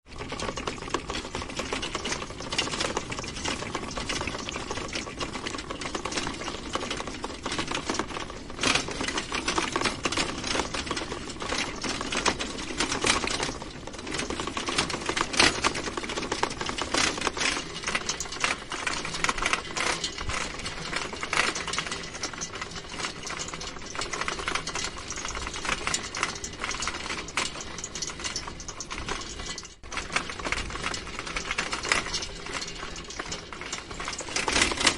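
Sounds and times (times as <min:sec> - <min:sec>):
bicycle rattling over rough ground: 0:00.0 - 0:34.9.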